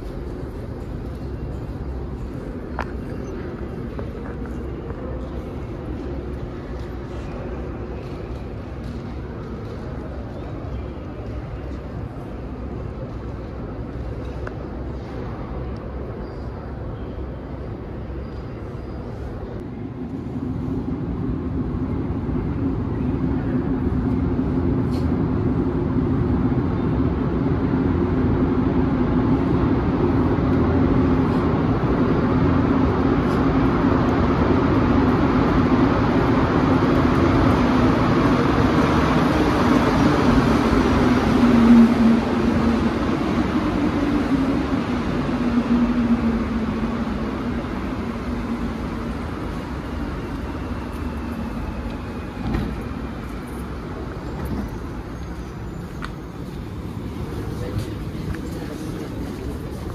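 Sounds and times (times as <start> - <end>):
metro train braking to a stop: 0.0 - 59.9.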